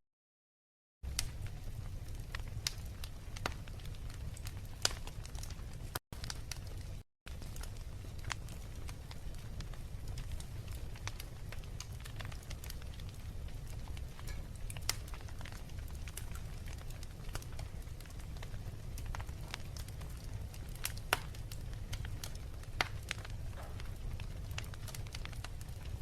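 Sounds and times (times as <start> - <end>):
fire low rumble: 1.0 - 26.0
wood fire crackling and popping: 1.1 - 26.0.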